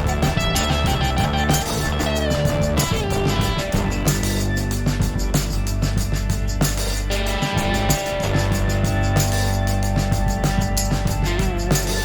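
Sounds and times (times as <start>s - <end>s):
guitar and drums music: 0.0s - 12.0s.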